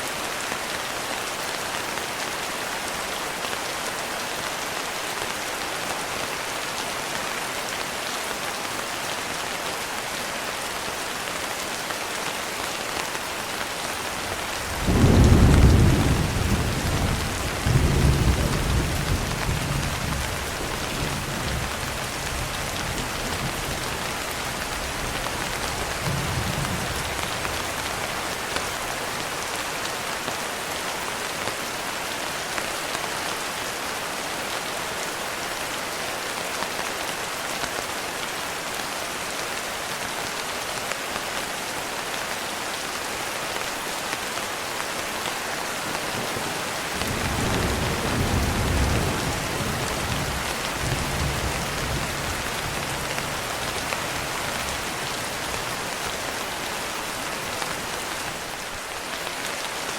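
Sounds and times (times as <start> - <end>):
rain falling on a window: 0.1 - 59.9.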